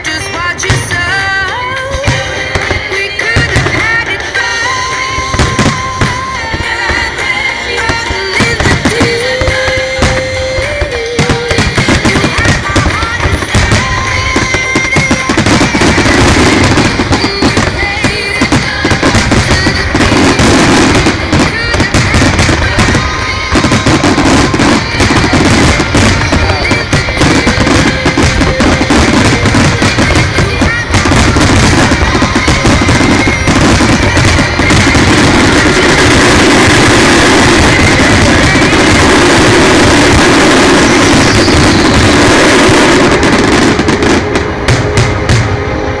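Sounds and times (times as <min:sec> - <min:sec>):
fireworks bursting and crackling: 0:00.0 - 0:46.0
loud music: 0:00.0 - 0:46.0.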